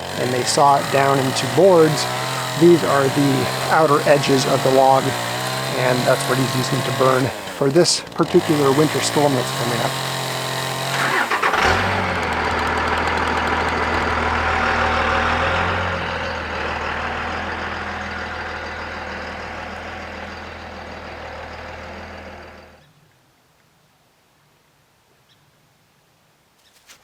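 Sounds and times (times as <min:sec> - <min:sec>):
chainsaw engine running: 0:00.0 - 0:22.8.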